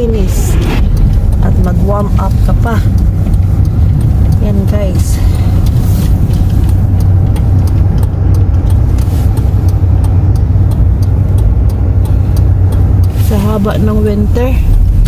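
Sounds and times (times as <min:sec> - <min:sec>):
car engine and tyres droning: 0:00.0 - 0:15.0.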